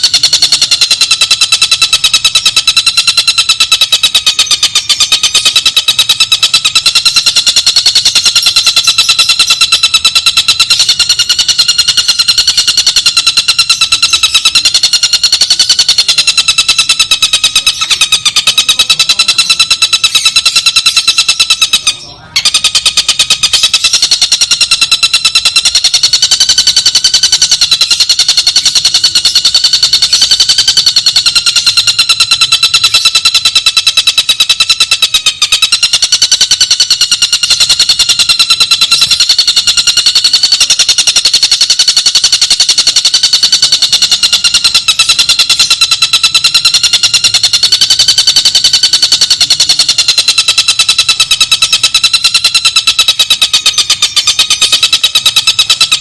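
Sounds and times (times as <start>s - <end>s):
fast wavering bird trill: 0.0s - 56.0s.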